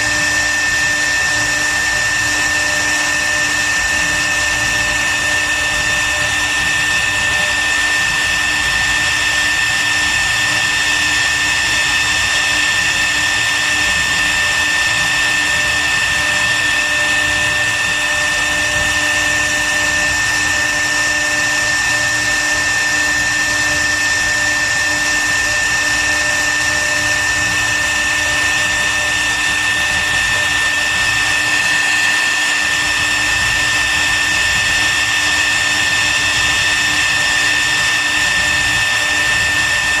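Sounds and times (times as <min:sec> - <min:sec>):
wood router spindle whining: 0:00.0 - 0:40.0.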